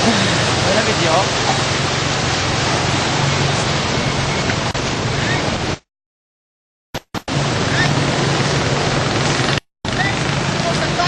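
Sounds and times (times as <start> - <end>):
loud steady rushing noise: 0.0 - 5.8, 7.0 - 11.0.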